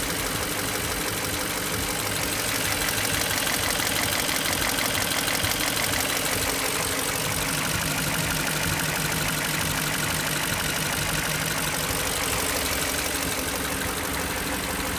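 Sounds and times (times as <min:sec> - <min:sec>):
car engine idling with ticking: 0:00.0 - 0:14.9.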